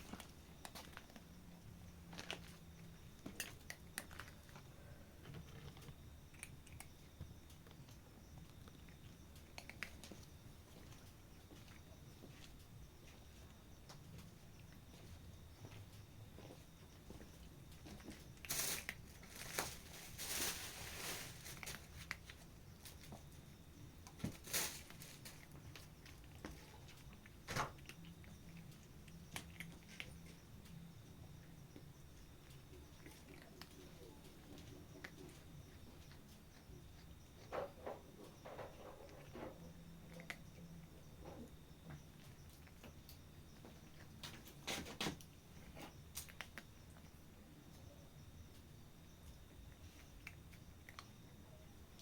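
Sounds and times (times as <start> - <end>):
cat chewing food: 0.0 - 52.0.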